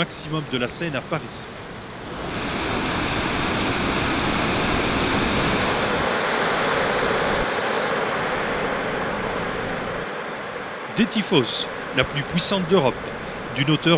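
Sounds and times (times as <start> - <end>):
waterfall rushing: 2.0 - 13.9.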